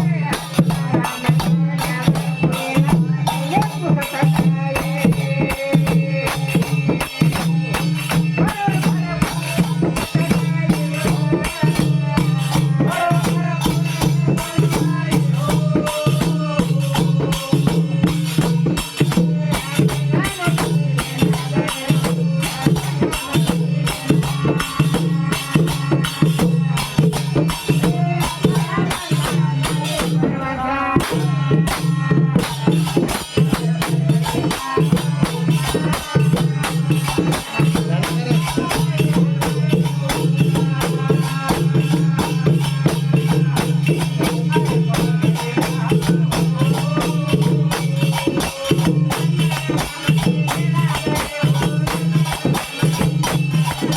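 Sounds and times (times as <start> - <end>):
hand percussion: 0.0 - 53.9
person singing: 0.0 - 53.9
small cymbals or tambourine: 0.0 - 53.9.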